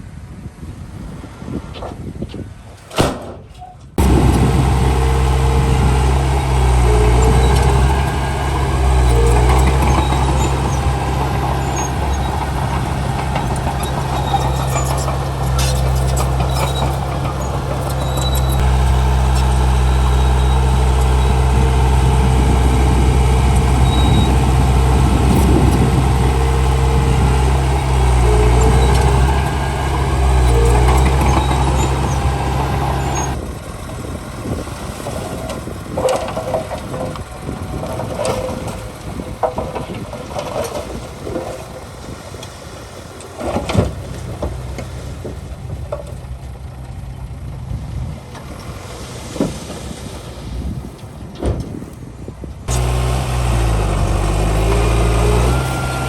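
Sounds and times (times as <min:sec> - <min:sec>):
diesel engine running under load: 0:04.0 - 0:56.0.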